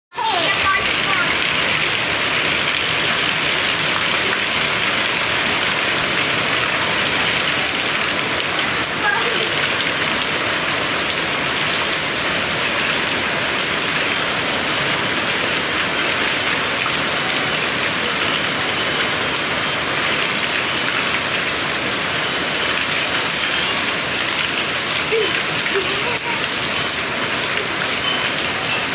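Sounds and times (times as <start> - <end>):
steady rain falling: 0.2 - 28.9.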